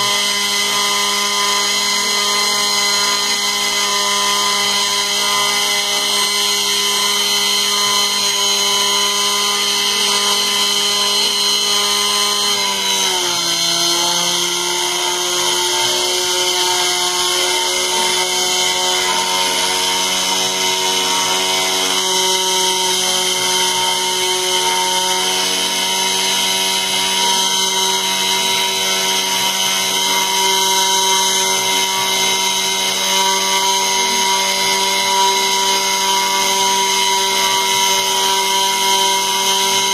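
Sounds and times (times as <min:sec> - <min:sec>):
cnc router spindle whining: 0:00.0 - 0:39.9.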